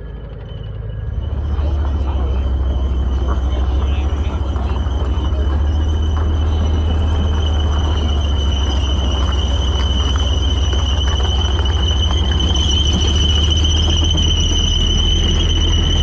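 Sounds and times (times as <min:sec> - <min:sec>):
high-pitched running gear squeal: 0:00.0 - 0:16.0
tank engine and track rumble: 0:00.0 - 0:16.0.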